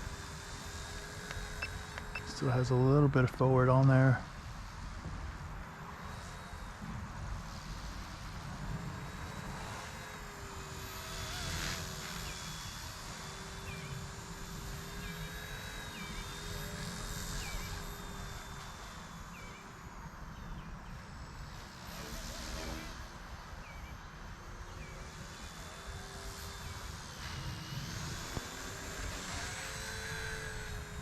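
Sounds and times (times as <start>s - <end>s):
toy helicopter motor whine: 0.0s - 3.1s, 4.0s - 31.0s.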